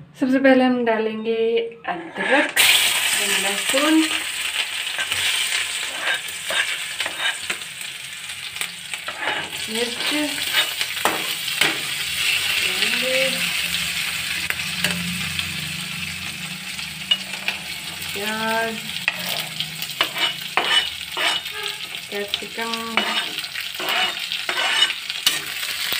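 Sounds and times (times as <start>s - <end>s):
metal spatula scraping a pan: 1.9s - 7.8s, 8.5s - 15.4s, 17.0s - 25.9s
food sizzling in hot oil: 2.2s - 25.9s.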